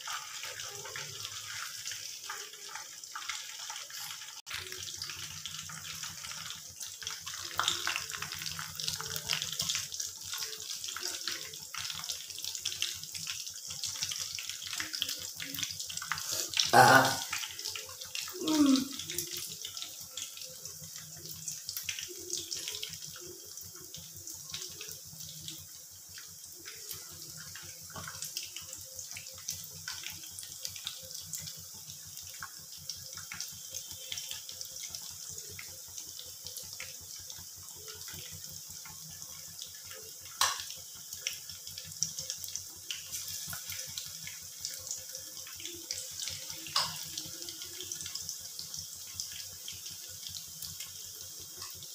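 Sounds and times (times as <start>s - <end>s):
chicken deep-frying in oil: 0.0s - 51.9s.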